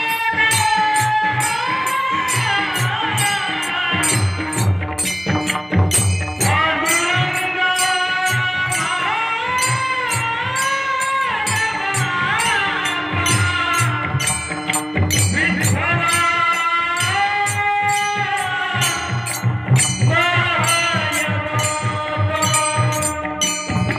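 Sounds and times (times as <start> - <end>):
drum beating: 0.0 - 23.9
hand cymbals striking: 0.0 - 23.9
man singing devotional song: 0.0 - 23.9.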